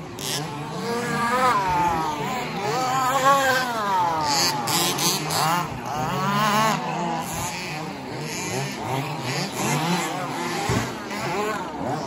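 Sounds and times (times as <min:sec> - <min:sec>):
electric toy car motors whining: 0:00.0 - 0:12.0.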